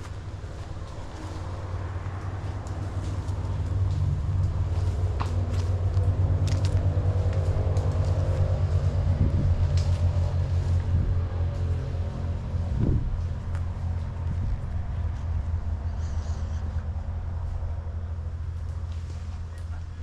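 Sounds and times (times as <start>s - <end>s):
motor running with pulsing rumble: 0.0s - 20.0s.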